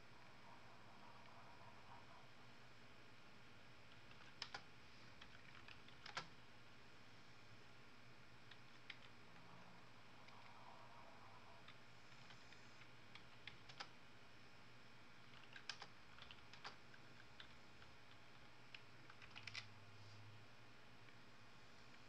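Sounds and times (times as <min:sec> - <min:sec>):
faint room hum: 0:00.0 - 0:22.0.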